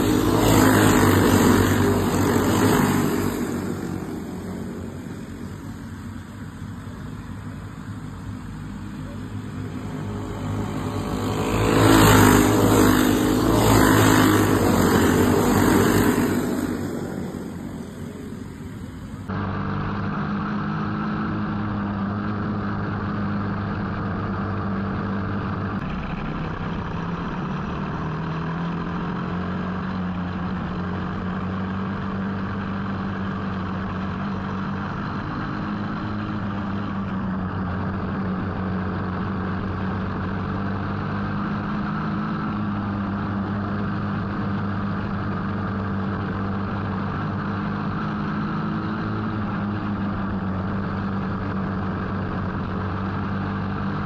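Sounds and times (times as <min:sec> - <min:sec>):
go-kart engine running hard: 0:00.0 - 0:54.0
steady rush of noise: 0:00.0 - 0:54.0.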